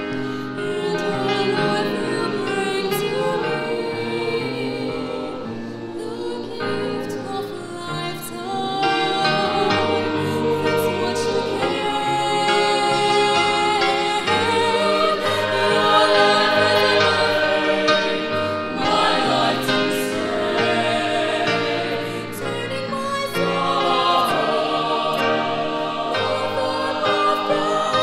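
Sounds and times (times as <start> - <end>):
choir singing in harmony: 0.0 - 28.0
piano accompaniment: 0.0 - 28.0.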